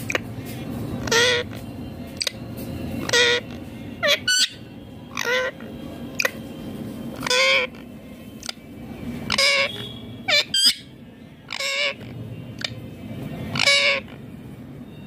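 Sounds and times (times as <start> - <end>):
parakeet squawking calls: 0.0 - 14.4.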